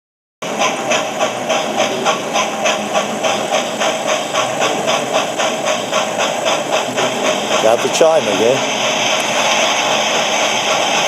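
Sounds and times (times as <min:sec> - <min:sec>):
model steam locomotive chuffing: 0:00.4 - 0:11.0
steam hiss: 0:00.5 - 0:11.0.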